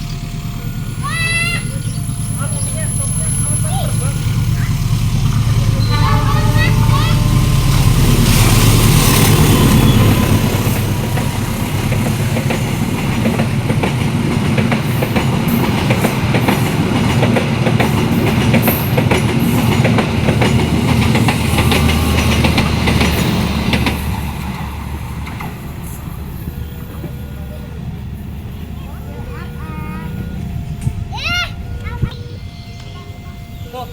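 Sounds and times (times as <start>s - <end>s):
wheels clacking over rail joints: 0.0s - 32.2s
train wheels rumbling on rails: 0.0s - 33.9s.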